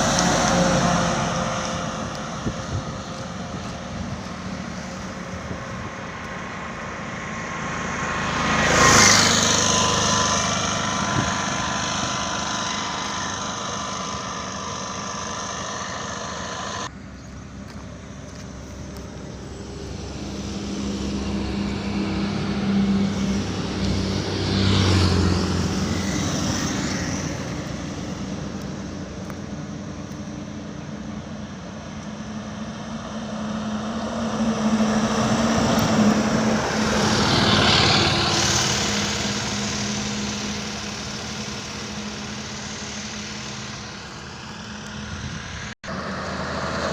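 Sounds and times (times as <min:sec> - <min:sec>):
road vehicles driving past: 0:00.0 - 0:46.9.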